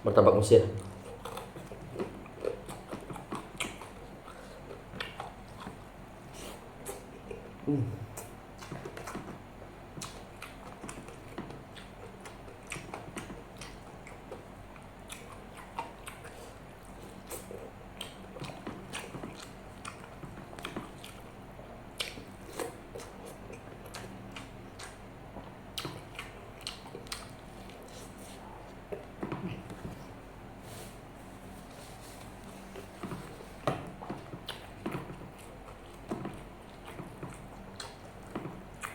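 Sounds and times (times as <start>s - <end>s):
close chewing and mouth smacks: 0.8s - 30.2s, 31.6s - 38.9s.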